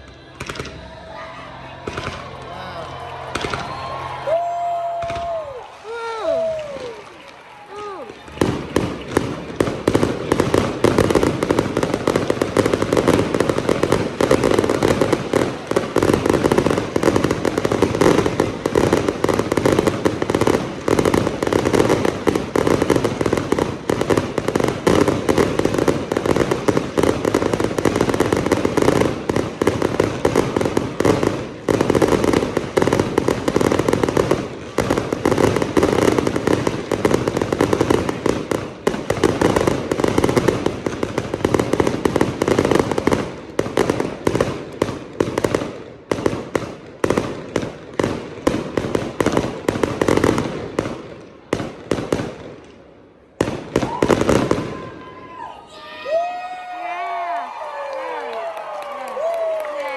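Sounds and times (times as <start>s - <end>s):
fireworks crackling pops: 0.0s - 1.0s, 3.2s - 55.0s.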